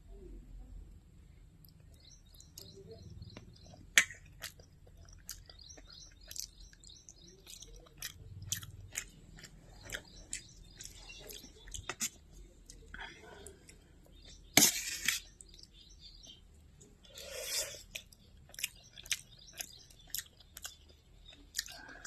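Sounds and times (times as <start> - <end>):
chewing crunchy food: 1.6 - 22.0.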